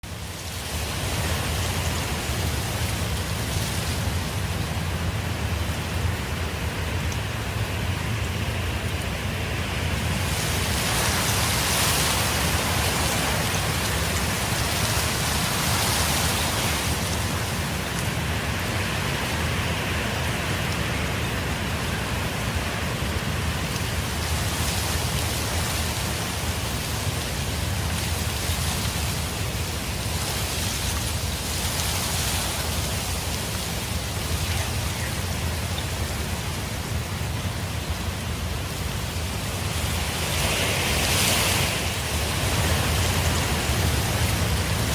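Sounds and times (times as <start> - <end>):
strong wind and blowing sand: 0.0 - 44.9.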